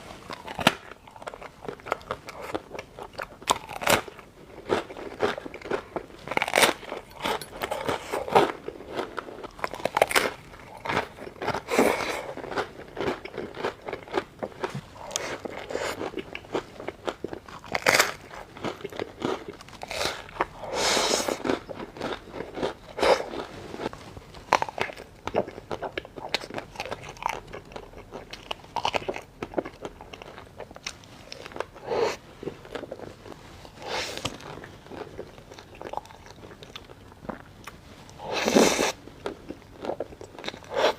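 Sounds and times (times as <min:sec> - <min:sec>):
chewing: 0:00.3 - 0:40.9
crunching into ice cream: 0:00.3 - 0:40.9.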